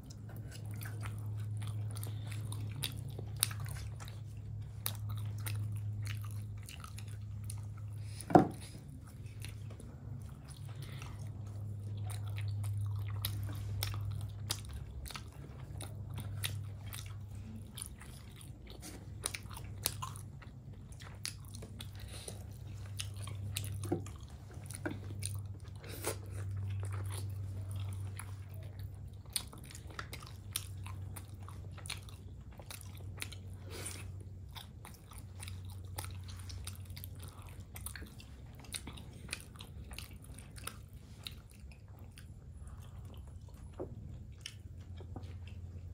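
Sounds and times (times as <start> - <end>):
chewing with mouth clicks: 0.0 - 45.9
steady low hum: 0.0 - 45.9.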